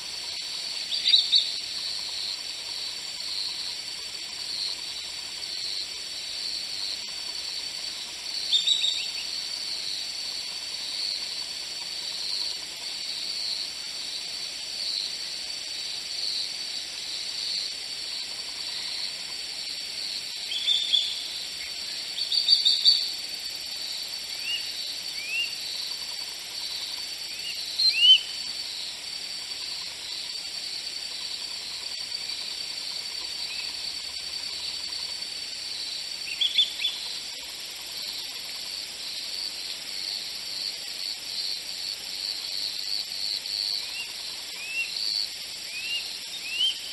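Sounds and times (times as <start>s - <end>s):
high insect buzz: 0.0s - 46.9s.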